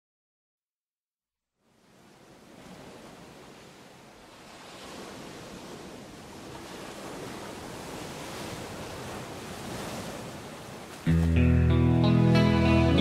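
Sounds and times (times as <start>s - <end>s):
ocean surf waves: 1.6s - 13.0s.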